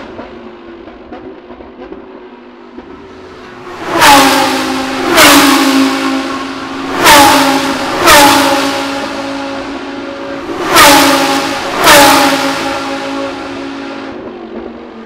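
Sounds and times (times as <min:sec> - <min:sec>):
race cars passing at full speed: 0:00.0 - 0:15.0.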